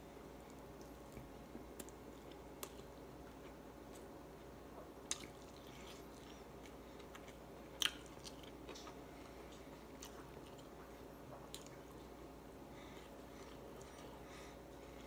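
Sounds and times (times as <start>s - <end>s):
person chewing food: 0.4s - 4.1s, 4.7s - 15.0s.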